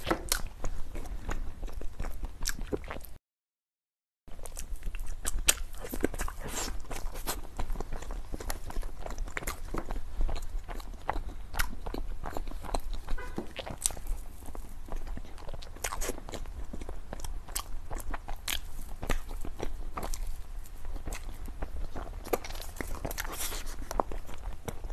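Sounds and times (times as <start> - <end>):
chewing with crisp crunches: 0.0 - 3.2, 4.3 - 24.9.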